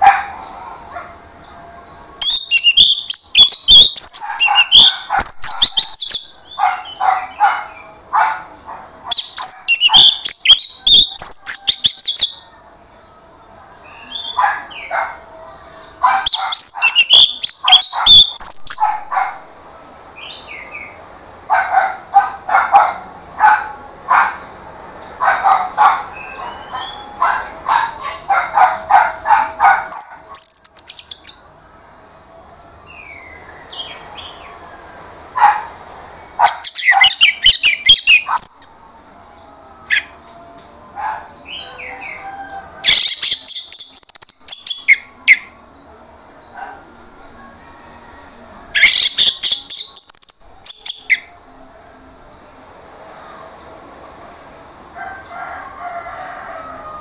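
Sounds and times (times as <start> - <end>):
thrush singing: 0.0 - 56.8.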